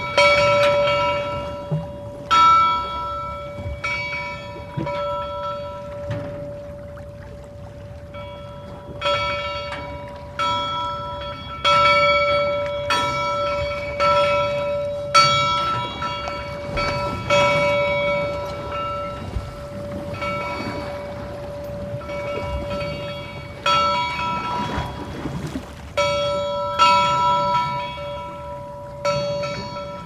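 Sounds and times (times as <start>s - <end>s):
church bell tolling: 0.0s - 25.4s, 26.0s - 30.0s.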